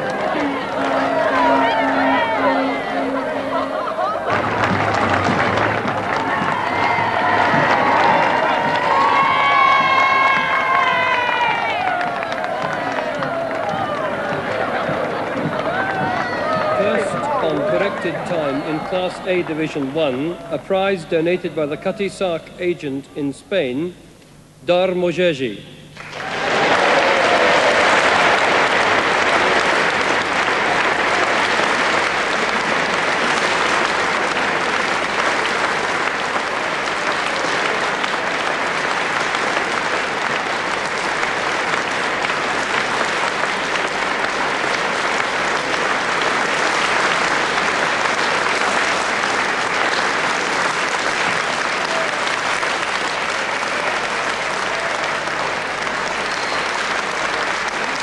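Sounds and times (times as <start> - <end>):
audience applauding: 0.0 - 23.0, 26.0 - 58.0.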